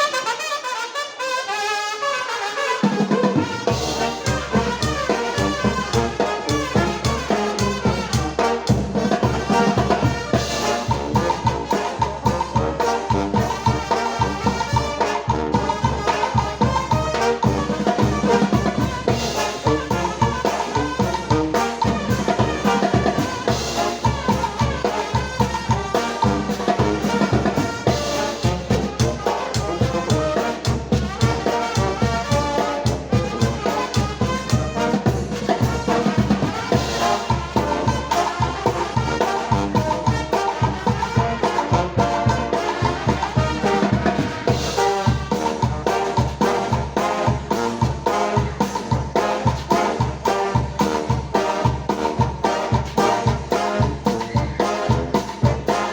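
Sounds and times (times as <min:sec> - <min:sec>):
brass band playing cumbia: 0:00.0 - 0:55.9
trumpets and trombones: 0:00.0 - 0:55.9
bass and drums beat: 0:03.2 - 0:55.9.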